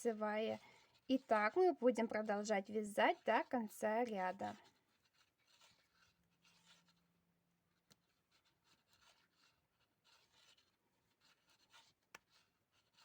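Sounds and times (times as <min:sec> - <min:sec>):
rustling of yarn: 0:00.0 - 0:13.0.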